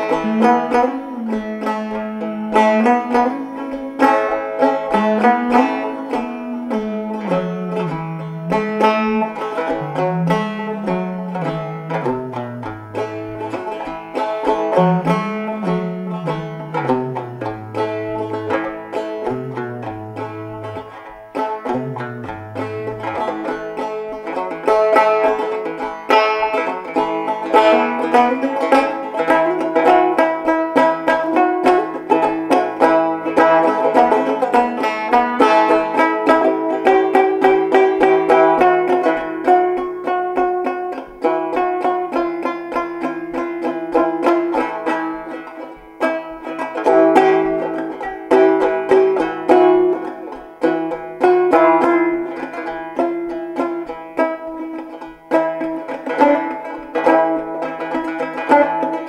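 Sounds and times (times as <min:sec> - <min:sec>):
banjo music: 0:00.0 - 0:59.0.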